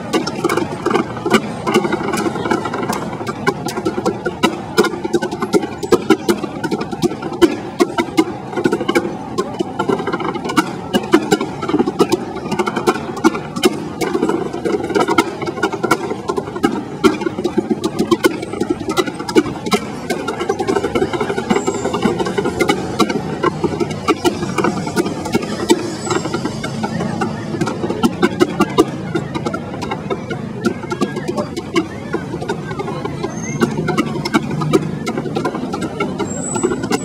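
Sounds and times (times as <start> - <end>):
tap shoes on wooden boards: 0.0 - 37.0.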